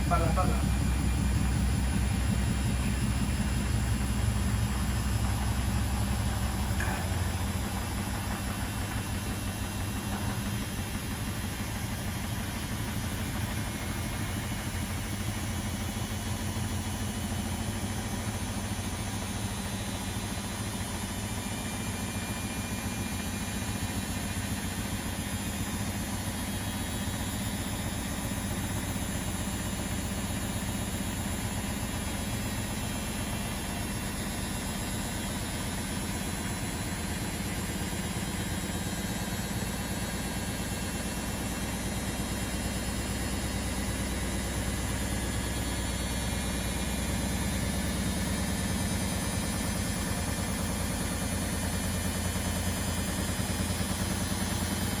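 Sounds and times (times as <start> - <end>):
washing machines and dryers humming: 0.0 - 55.0.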